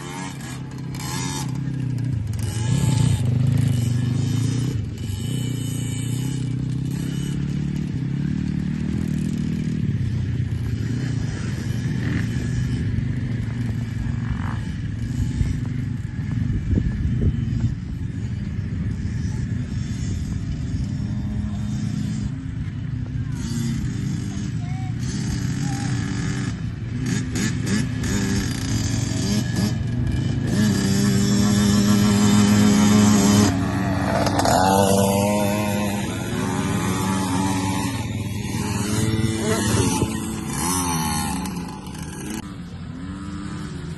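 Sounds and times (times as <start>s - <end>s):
motocross bike engines: 0.0s - 43.9s.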